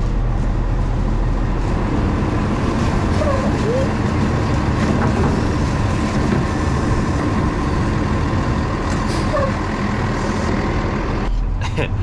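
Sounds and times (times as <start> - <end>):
truck engine driving: 0.0 - 12.0.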